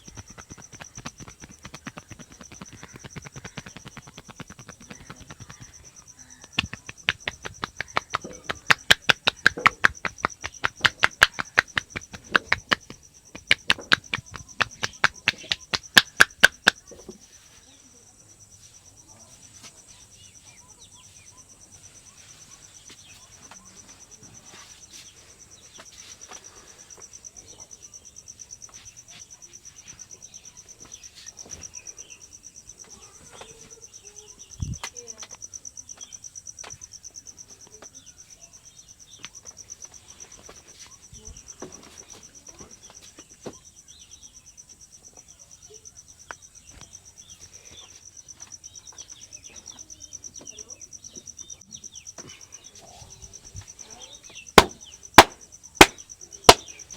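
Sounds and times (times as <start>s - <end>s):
insects trilling: 0.0s - 56.9s.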